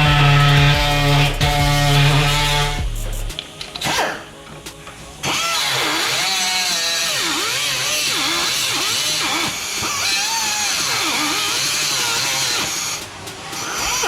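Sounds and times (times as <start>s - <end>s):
power tool grinding metal: 0.0s - 3.9s, 5.2s - 14.0s.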